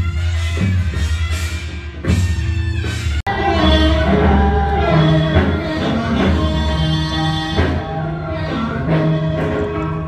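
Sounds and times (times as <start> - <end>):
instrumental music with drum beat: 0.0 - 10.0.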